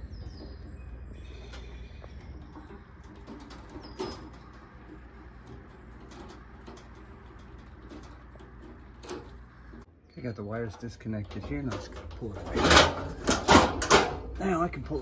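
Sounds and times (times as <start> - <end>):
wire connectors clicking and rustling: 0.0 - 9.9, 10.7 - 15.0
birds chirping: 0.0 - 13.4
low outdoor rumble: 0.0 - 15.0.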